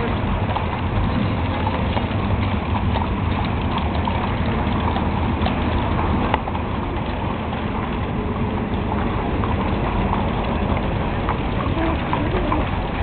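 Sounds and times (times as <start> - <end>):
horse hooves clip-clopping: 0.0 - 13.0
low rumble: 0.0 - 13.0.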